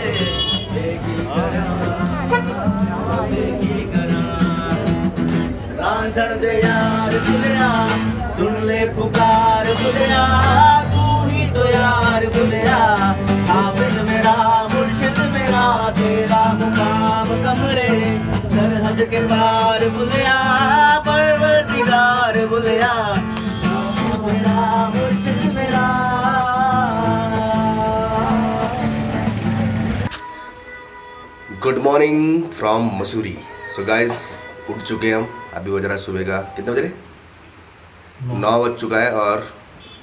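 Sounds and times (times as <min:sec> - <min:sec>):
person singing: 0:00.0 - 0:05.0, 0:05.8 - 0:29.3, 0:30.1 - 0:35.9
acoustic guitar: 0:00.0 - 0:37.0.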